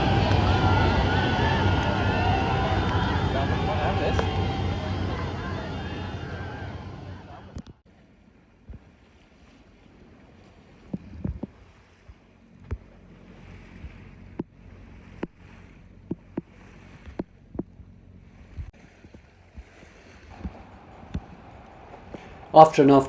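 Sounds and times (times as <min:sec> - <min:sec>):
waves lapping: 0:00.0 - 0:07.5, 0:08.3 - 0:17.5, 0:18.2 - 0:23.0
faint wind: 0:00.0 - 0:19.7, 0:20.3 - 0:23.0.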